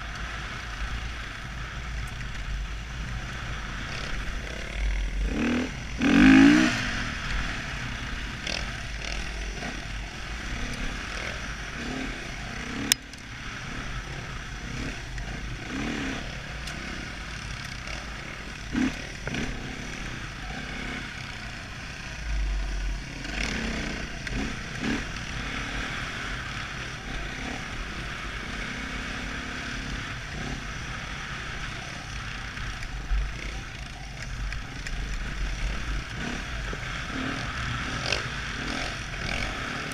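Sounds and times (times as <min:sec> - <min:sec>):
dirt bike engine revving: 0:03.3 - 0:39.9.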